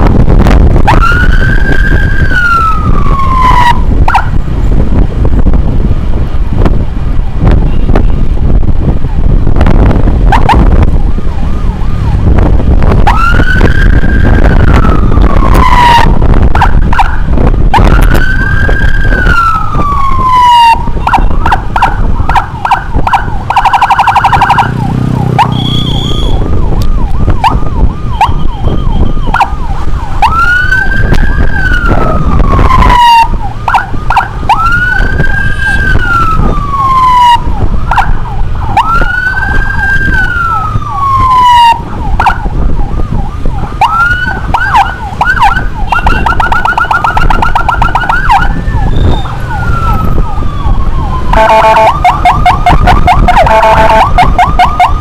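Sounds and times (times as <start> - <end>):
emergency vehicle siren wailing and yelping: 0.0 - 55.0
heavy wind: 0.0 - 55.0
road rumble: 0.0 - 55.0.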